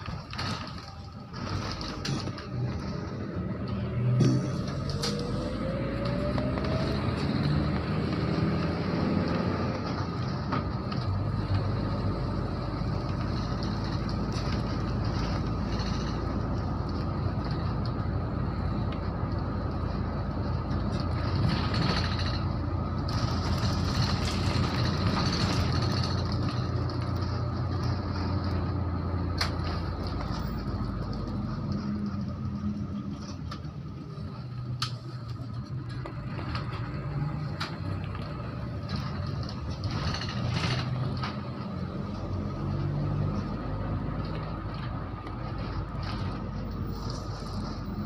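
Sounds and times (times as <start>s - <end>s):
road noise: 0.0s - 48.0s.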